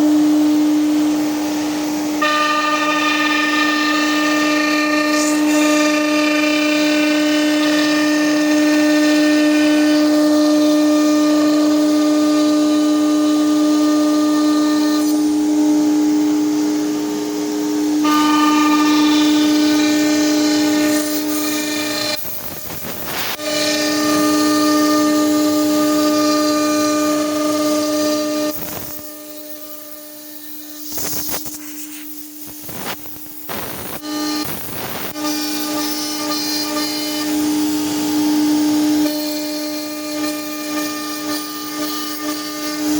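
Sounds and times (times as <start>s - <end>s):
machine high-pitched whine: 0.0s - 42.9s.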